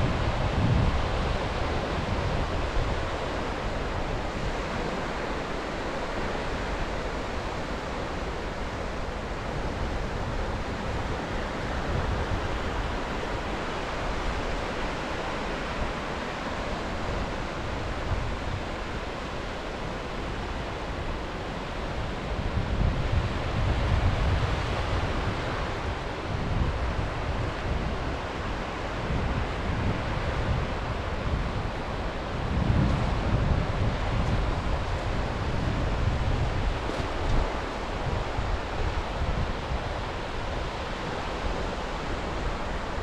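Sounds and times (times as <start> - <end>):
sea surf washing onto shore: 0.0 - 43.0
wind buffeting microphone: 0.0 - 43.0.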